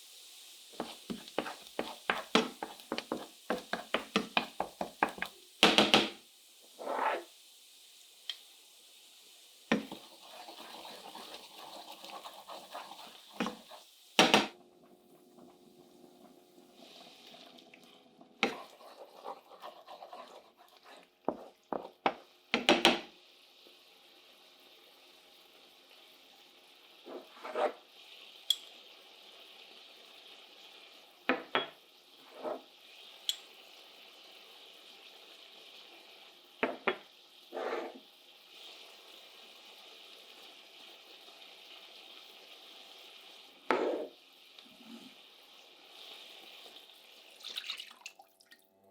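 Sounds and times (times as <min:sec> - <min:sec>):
faint steady hiss: 0:00.0 - 0:48.9.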